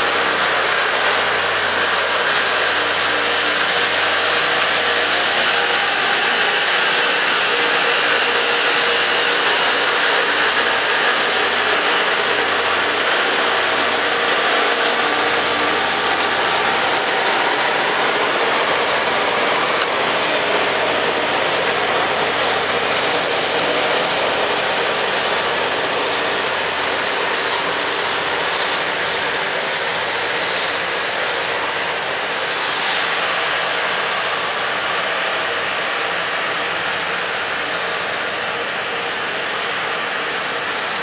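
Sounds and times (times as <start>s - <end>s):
rail grinder train roaring: 0.0s - 41.0s.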